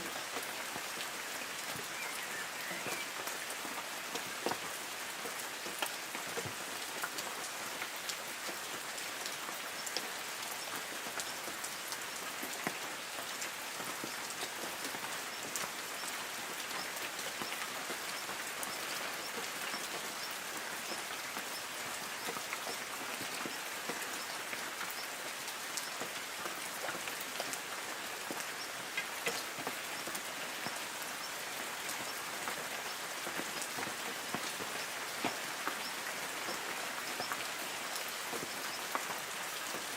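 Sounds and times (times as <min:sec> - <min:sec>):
light rain pattering on leaves: 0:00.0 - 0:39.9.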